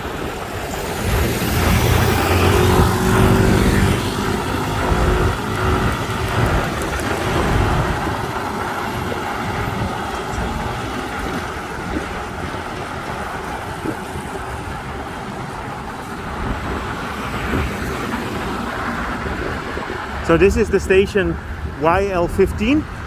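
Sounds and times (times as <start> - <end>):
car and truck engines: 0.0 - 23.0
tyres on road: 0.0 - 23.0.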